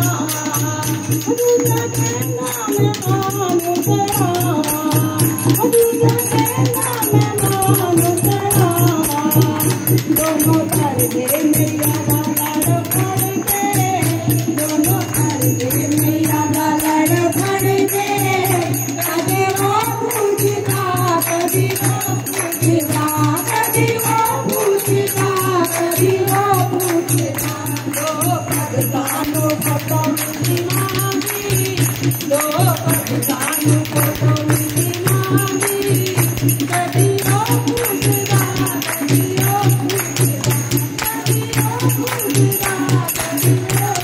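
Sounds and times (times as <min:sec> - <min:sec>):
group singing devotional song: 0:00.0 - 0:44.0
hand drum beat: 0:00.0 - 0:44.0
jingling percussion: 0:00.0 - 0:44.0.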